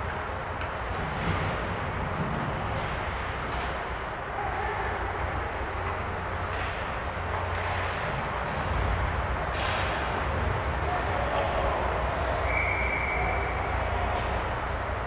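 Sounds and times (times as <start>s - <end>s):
hockey sticks and puck clacking: 0.0s - 4.0s, 4.6s - 15.0s.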